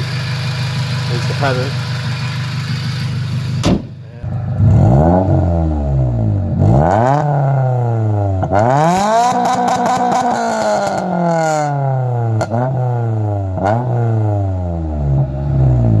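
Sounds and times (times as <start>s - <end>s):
car engine revving with crackle: 0.0s - 16.0s.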